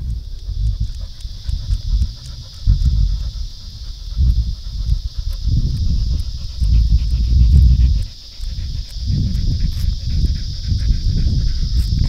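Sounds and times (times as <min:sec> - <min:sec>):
cicadas buzzing: 0:00.0 - 0:12.0
low rumble: 0:00.0 - 0:12.0.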